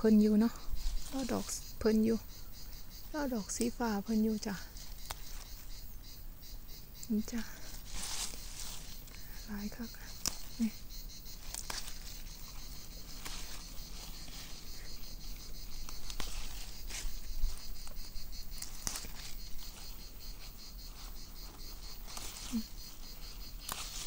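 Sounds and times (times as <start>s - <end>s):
grass and leaves rustling: 0.0s - 24.0s
insects chirring: 0.0s - 24.0s.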